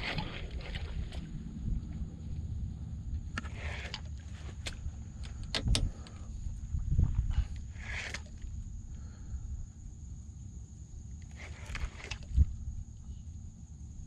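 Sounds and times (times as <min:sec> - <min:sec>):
faint high whine: 0:00.0 - 0:14.0
wind rumbling on microphone: 0:00.0 - 0:14.0.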